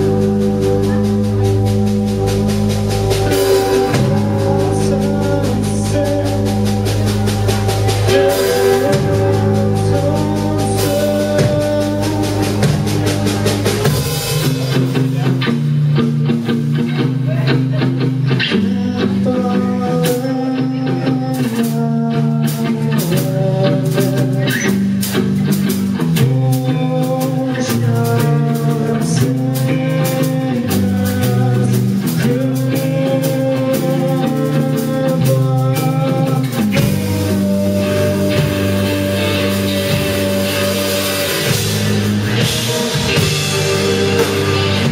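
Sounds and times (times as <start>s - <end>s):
drum kit: 0.0s - 44.9s
electric guitars: 0.0s - 44.9s.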